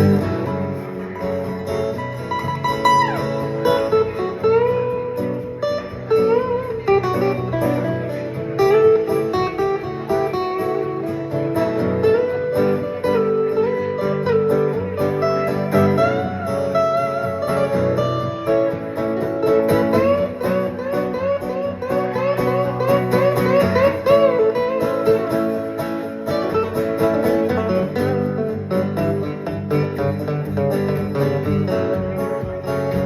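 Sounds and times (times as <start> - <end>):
guitar-led rock music: 0.0 - 33.0.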